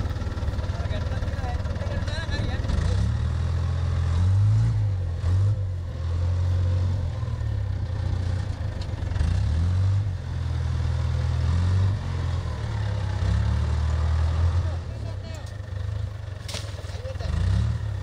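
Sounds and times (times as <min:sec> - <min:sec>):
wheel loader diesel engine rumbling: 0:00.0 - 0:18.0.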